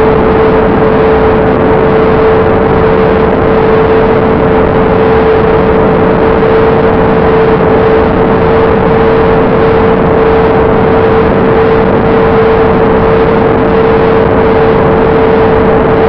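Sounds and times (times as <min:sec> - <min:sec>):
wind rush: 0:00.0 - 0:16.0.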